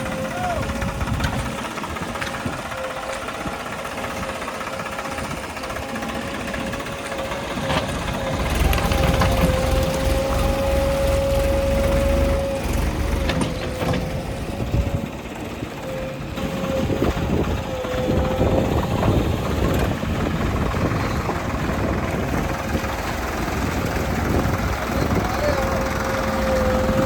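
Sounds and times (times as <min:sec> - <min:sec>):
diesel engines under load: 0:00.0 - 0:27.0.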